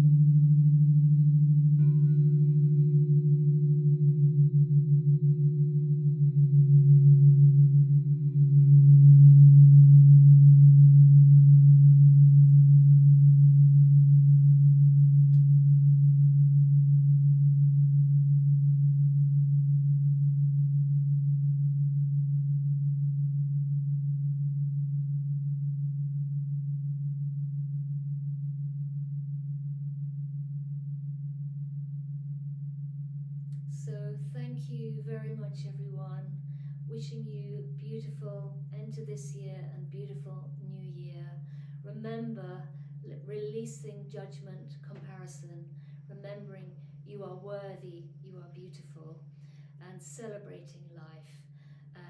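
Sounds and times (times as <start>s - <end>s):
singing bowl tone: 0.0s - 51.9s.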